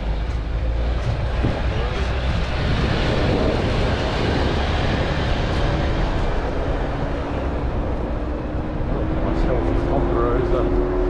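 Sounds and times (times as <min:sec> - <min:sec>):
rumble of engine and tyres: 0:00.0 - 0:11.0.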